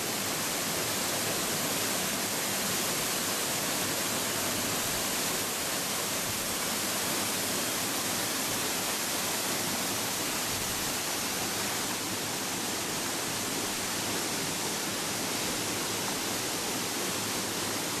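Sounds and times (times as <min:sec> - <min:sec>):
waterfall rushing into a pool: 0:00.0 - 0:18.0.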